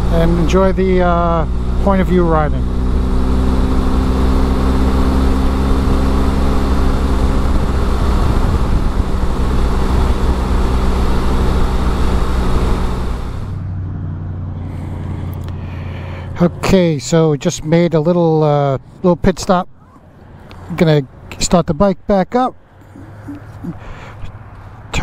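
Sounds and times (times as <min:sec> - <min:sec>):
motorcycle engine cruising: 0:00.0 - 0:21.6, 0:22.6 - 0:25.0
wind and road noise: 0:00.0 - 0:25.0.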